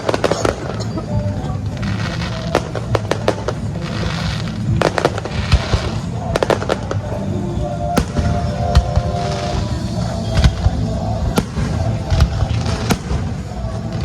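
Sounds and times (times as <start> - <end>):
fireworks bangs: 0.0 - 14.0
fireworks crackling hiss: 0.0 - 14.0
music: 0.0 - 14.0.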